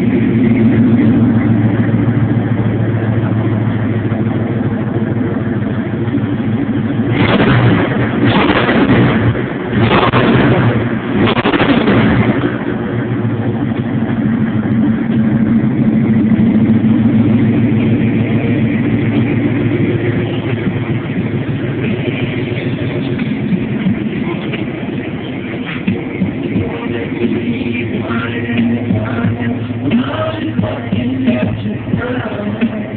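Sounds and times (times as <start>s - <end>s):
pickup engine running: 0.0s - 32.9s.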